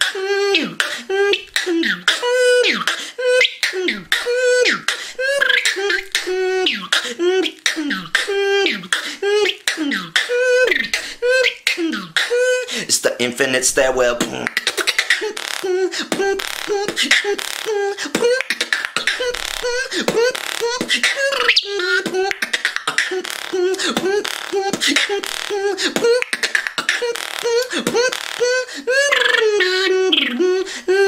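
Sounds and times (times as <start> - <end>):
beatboxing percussive hits: 0.0 - 12.5, 13.8 - 29.4.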